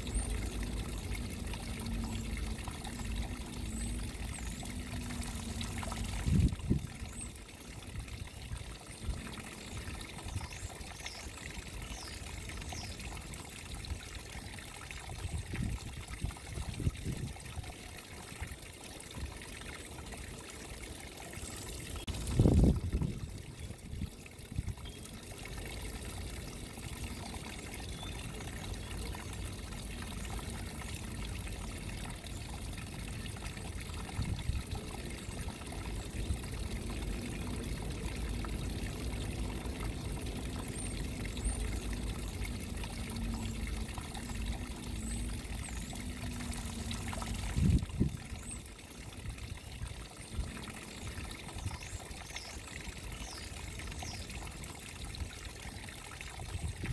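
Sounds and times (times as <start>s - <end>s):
small waterfall splashing over rocks: 0.0s - 56.9s.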